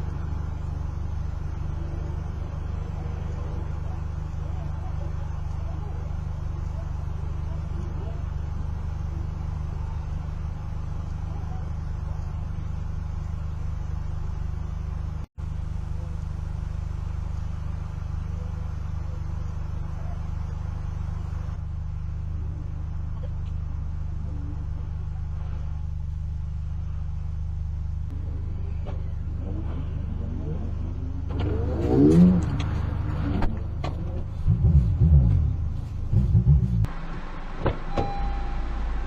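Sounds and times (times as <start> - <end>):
car engine drone: 0.0 - 39.0
road noise: 0.0 - 39.0.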